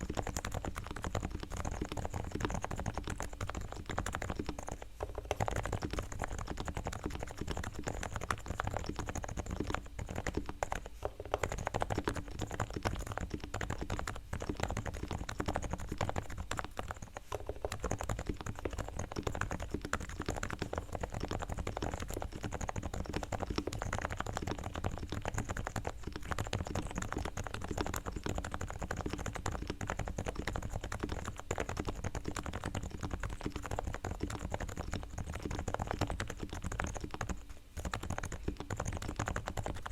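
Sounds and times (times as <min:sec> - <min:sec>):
soft muted keyboard typing: 0:00.0 - 0:39.9.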